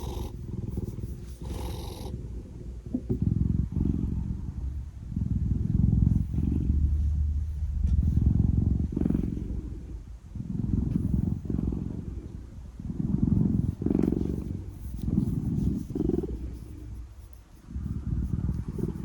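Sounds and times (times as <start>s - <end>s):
cat purring deeply: 0.0s - 19.0s.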